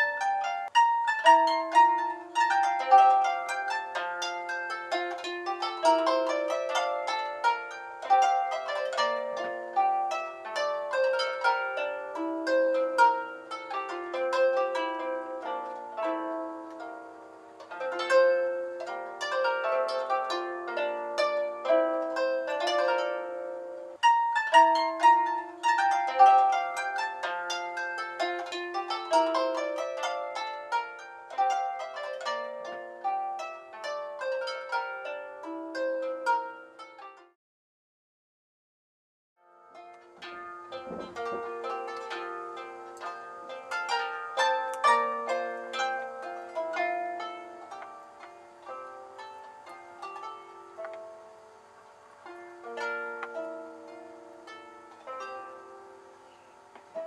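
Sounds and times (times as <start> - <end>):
solo harp music: 0.0 - 37.4, 39.4 - 57.0.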